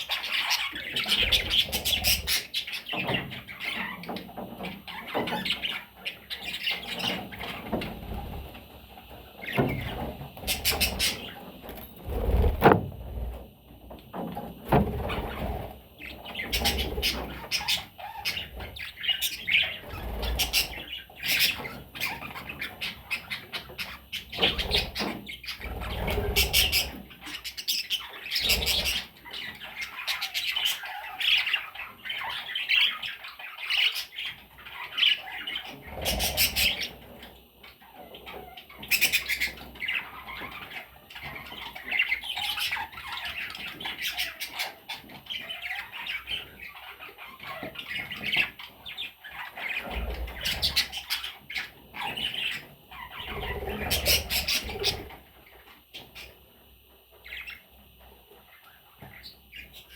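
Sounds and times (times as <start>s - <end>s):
budgerigars chattering and squawking: 0.0s - 13.4s, 14.1s - 59.9s.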